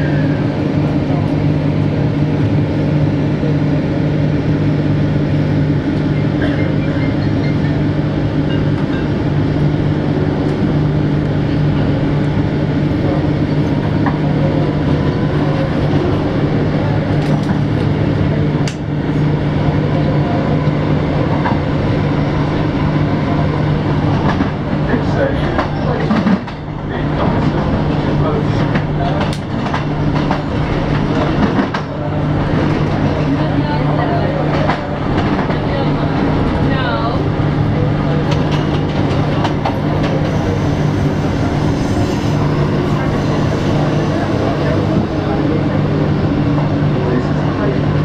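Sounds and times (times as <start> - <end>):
train low hum: 0.0 - 48.0
wheel and track rumble: 0.0 - 48.0.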